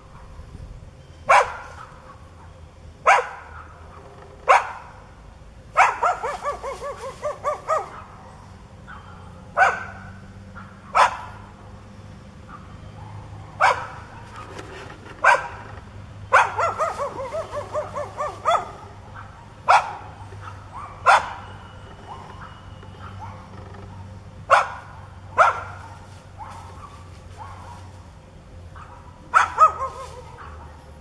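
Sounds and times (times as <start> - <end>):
dog barking aggressively: 1.3 - 2.3, 3.0 - 5.0, 5.7 - 11.5, 12.4 - 28.0, 28.7 - 31.0.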